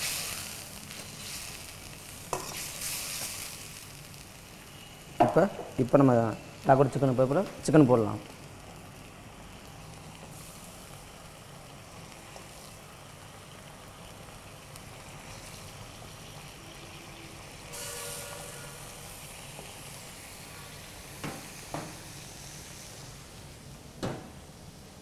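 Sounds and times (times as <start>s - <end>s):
chicken sizzling in a pan: 0.0s - 23.5s.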